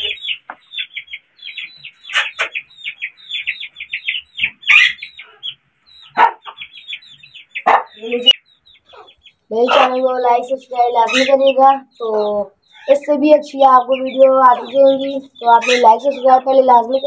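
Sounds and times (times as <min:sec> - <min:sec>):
birds chirping: 0:00.0 - 0:17.0
chickens clucking: 0:00.0 - 0:17.0.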